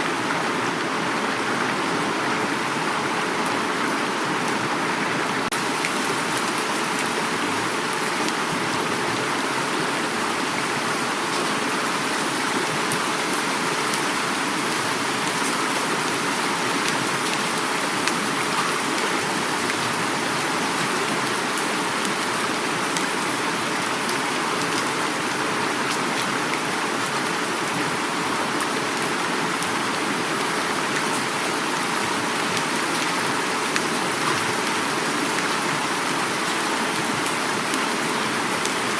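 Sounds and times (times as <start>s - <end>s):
flowing river water: 0.0s - 38.9s
heavy rain falling: 0.0s - 38.9s.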